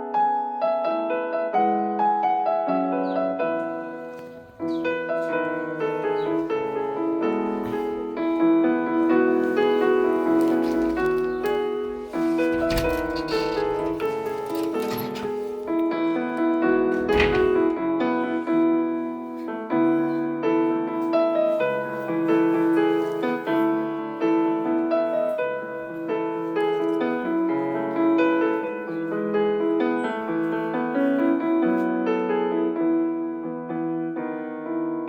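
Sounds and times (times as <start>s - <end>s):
gentle piano melody: 0.0s - 35.0s.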